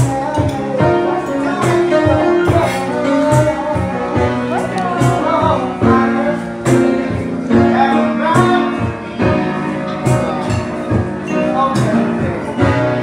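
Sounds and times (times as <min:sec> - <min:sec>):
song with singer and beat: 0:00.0 - 0:13.0.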